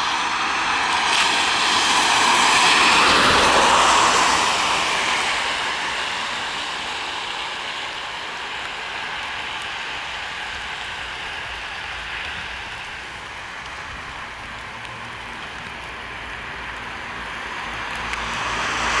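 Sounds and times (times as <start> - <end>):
rain falling on pavement: 0.0 - 19.0.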